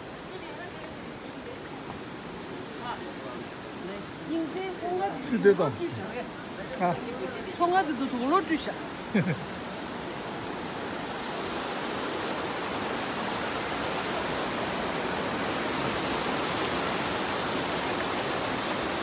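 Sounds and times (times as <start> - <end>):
water rushing through stone channel: 0.0 - 19.0.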